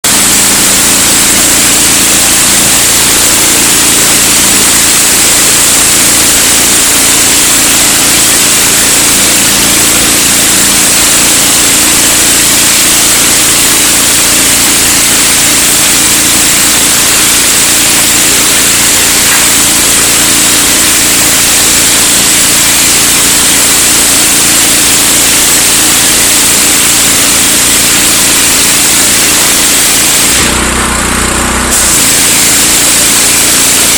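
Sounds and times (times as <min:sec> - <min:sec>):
pressure washer water spray hissing: 0:00.0 - 0:33.9.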